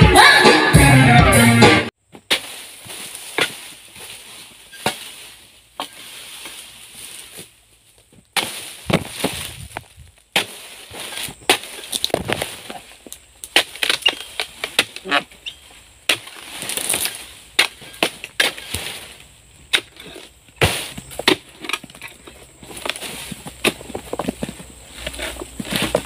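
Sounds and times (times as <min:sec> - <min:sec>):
palm leaves rustling: 0:02.0 - 0:26.0
sickle cutting palm fronds: 0:02.1 - 0:26.0.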